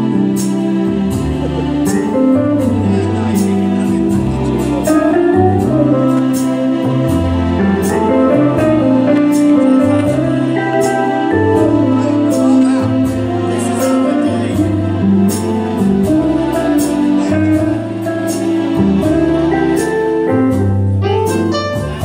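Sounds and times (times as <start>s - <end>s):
music with bass and keyboard: 0.0s - 22.0s.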